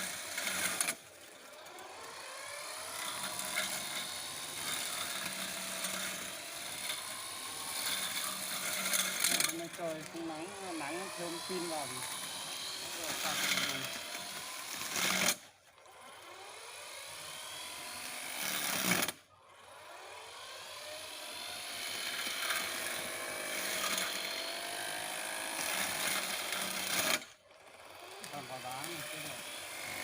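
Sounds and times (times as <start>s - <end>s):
grass cutter electric motor running: 0.0s - 30.0s.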